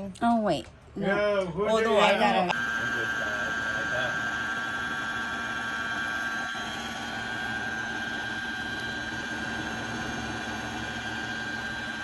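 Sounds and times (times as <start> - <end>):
sewing machine motor whining: 2.0 - 12.0.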